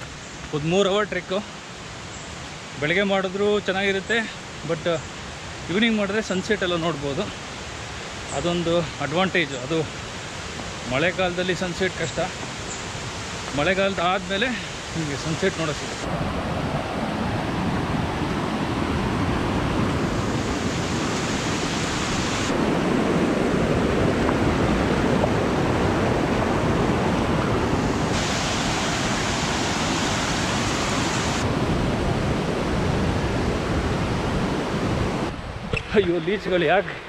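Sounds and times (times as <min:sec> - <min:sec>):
water rushing over rocks: 0:00.0 - 0:36.9.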